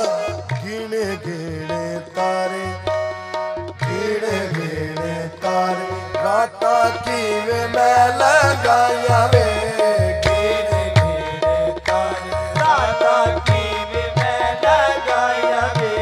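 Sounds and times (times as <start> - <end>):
men singing: 0.0 - 3.0, 3.8 - 16.0
harmonium chords: 0.0 - 16.0
tabla beat: 0.0 - 16.0.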